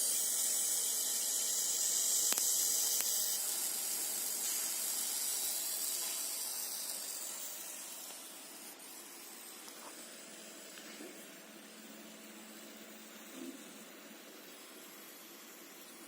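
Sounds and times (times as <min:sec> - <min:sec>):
laser marking machine hiss: 0:00.0 - 0:16.0.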